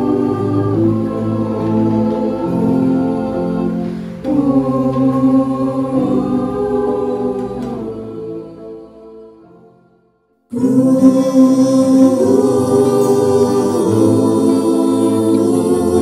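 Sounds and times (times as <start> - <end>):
choir singing wordless chords: 0.0 - 16.0.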